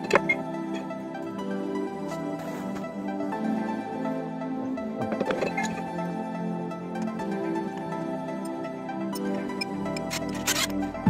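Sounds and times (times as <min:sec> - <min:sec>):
electronic new-age music: 0:00.0 - 0:11.0.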